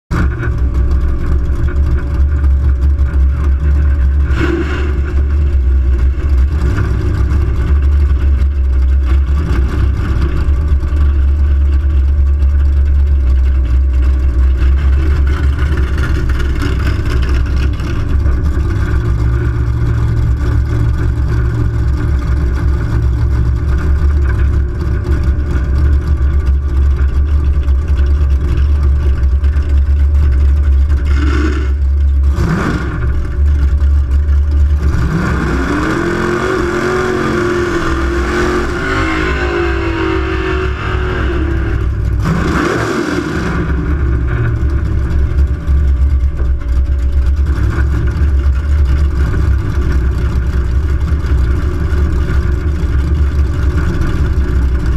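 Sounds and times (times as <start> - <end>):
car engine idling: 0.1 - 54.9.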